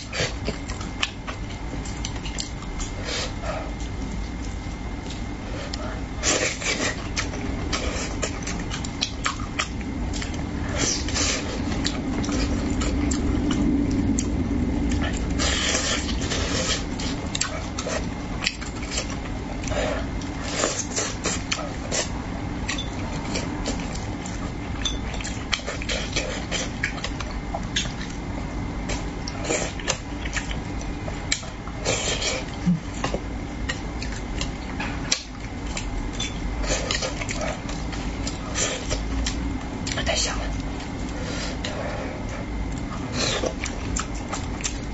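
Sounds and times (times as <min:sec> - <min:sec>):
wet chewing and lip-smacking: 0:00.0 - 0:44.9.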